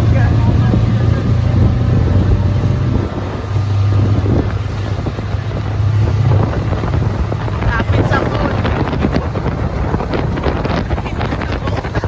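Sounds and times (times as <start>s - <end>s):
motorboat engine drone: 0.0s - 12.0s
wind buffeting microphone: 0.0s - 12.0s.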